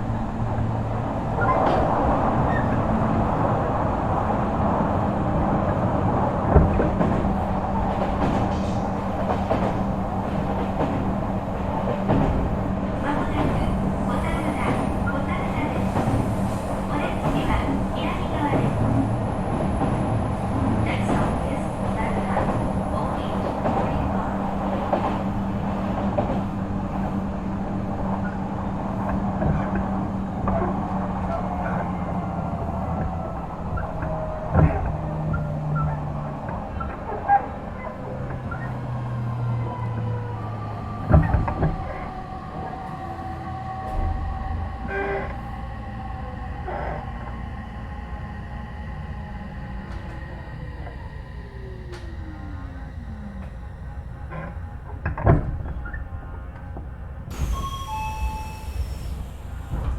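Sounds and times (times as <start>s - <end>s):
electric train rolling noise: 0.0s - 59.9s.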